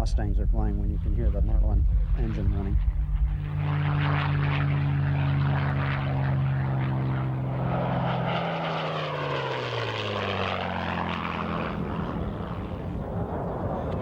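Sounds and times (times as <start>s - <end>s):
propeller plane engine drone flyby: 0.0s - 14.0s.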